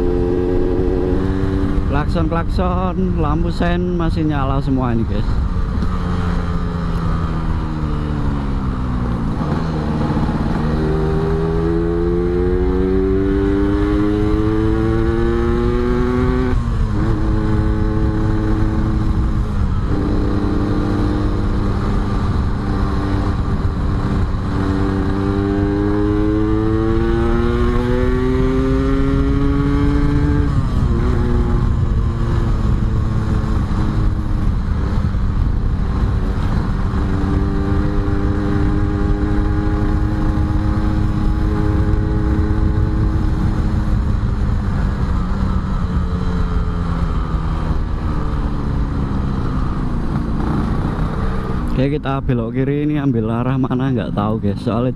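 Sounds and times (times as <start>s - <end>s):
motorcycle engine shifting gears: 0.0s - 2.0s, 5.3s - 51.8s.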